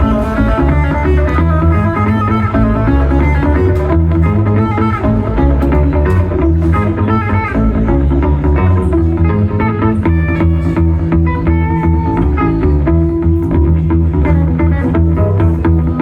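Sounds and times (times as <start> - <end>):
low bass line: 0.0 - 16.0
plucked guitar melody: 0.0 - 16.0.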